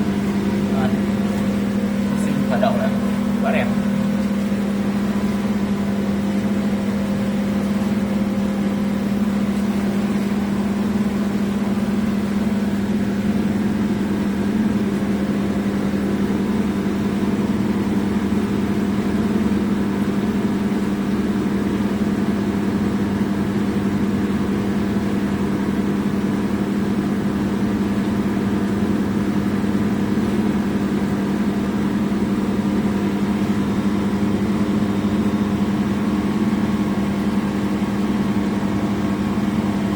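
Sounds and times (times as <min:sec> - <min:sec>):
machinery hum with low tone: 0:00.0 - 0:39.9.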